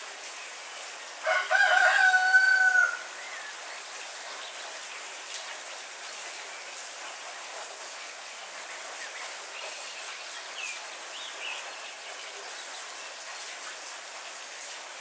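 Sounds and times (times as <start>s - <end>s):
heavy rain on trees: 0.0s - 15.0s.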